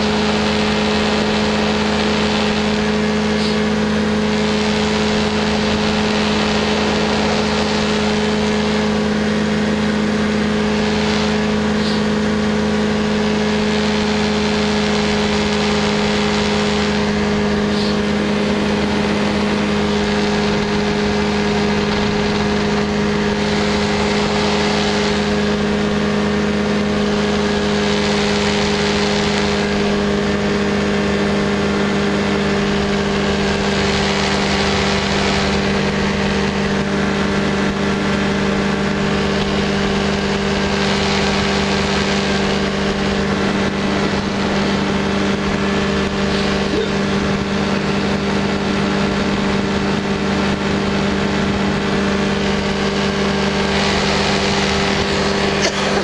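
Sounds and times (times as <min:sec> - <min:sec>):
small aircraft engine running: 0:00.0 - 0:56.0
wind rush over airframe: 0:00.0 - 0:56.0.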